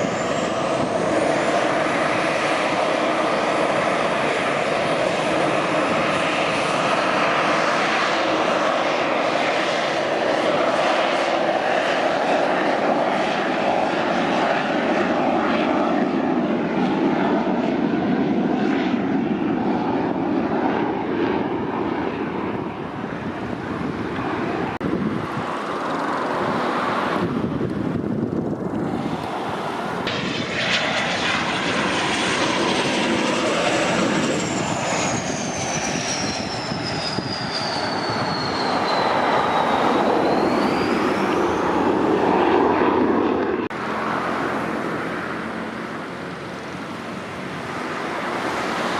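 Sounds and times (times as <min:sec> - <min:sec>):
high turbine whine: 0:00.0 - 0:48.9
jet rumble: 0:00.0 - 0:48.9.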